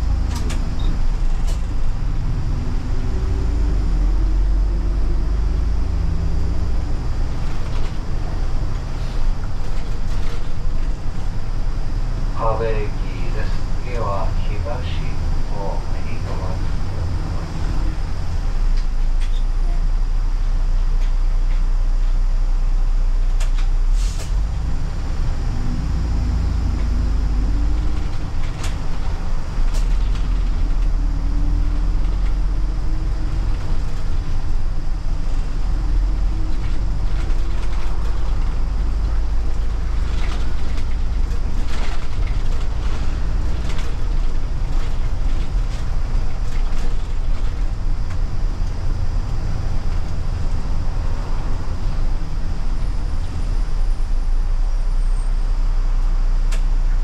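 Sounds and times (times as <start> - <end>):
bus engine rumble: 0.0 - 57.0
drivetrain whine: 0.0 - 57.0.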